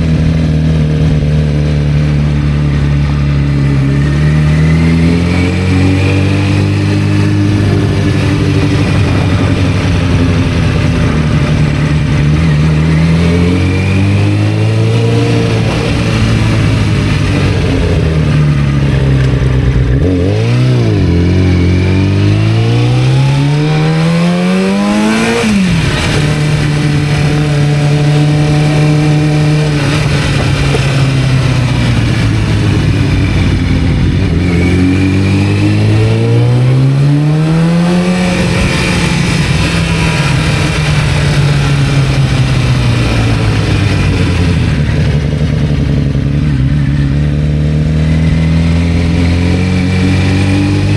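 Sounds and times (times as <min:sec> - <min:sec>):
motorcycle engine revving: 0:00.0 - 0:50.9
wind rush: 0:02.4 - 0:47.0.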